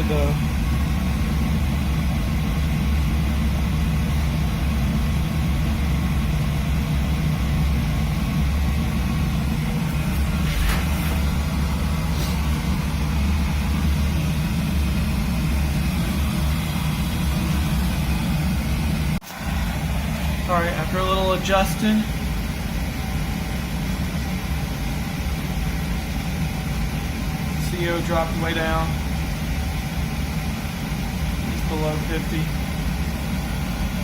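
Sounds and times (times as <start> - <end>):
oil burner roaring: 0.0 - 34.0.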